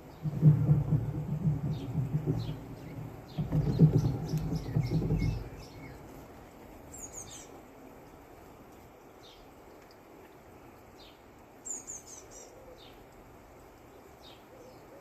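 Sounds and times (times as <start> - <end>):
small birds chirping: 0.0 - 7.8, 8.9 - 10.0, 10.8 - 13.2, 13.8 - 15.0.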